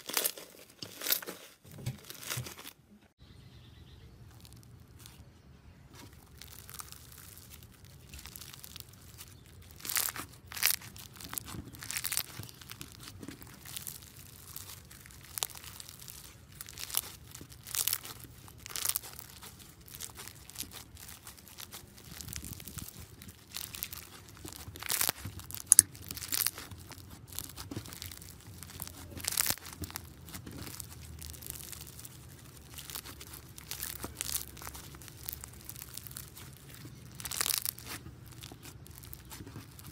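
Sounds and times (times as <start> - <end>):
slime crunching and popping: 0.0 - 2.6, 4.3 - 5.3, 5.9 - 39.9.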